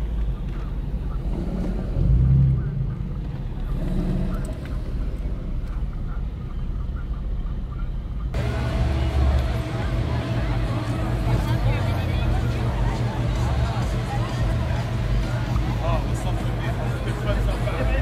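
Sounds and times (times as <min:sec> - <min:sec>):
car engine and exhaust rumble: 0:00.0 - 0:18.0.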